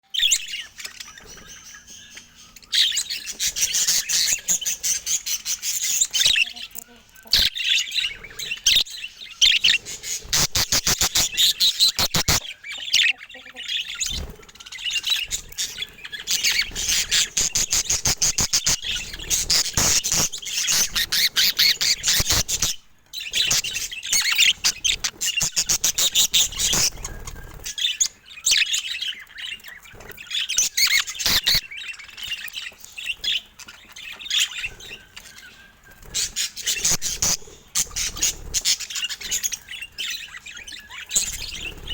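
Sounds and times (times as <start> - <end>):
budgerigars chattering and chirping: 0.1 - 41.9.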